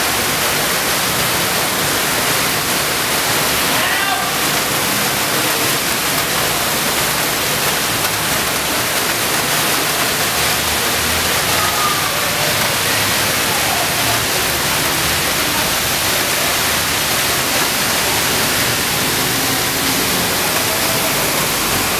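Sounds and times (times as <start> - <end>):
heavy rain on street: 0.0 - 21.9
runoff water rushing: 0.0 - 21.9.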